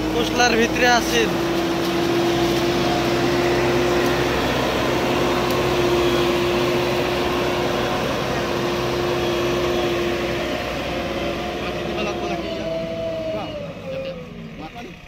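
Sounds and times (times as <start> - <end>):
steady whine: 0.0 - 14.9
backhoe diesel engine running: 0.0 - 15.0.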